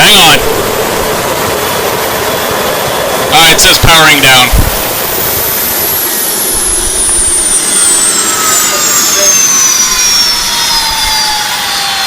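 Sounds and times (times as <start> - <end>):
air conditioner roaring: 0.0 - 12.0
high whines falling in pitch: 0.0 - 12.0.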